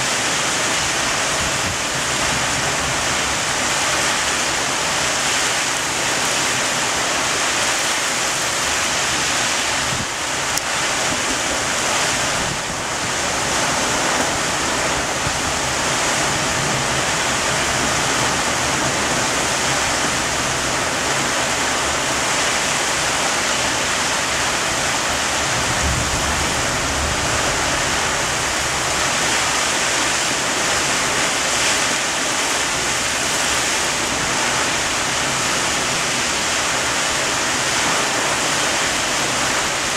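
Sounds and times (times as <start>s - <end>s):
heavy rain pouring: 0.0s - 39.9s
wind: 0.0s - 39.9s.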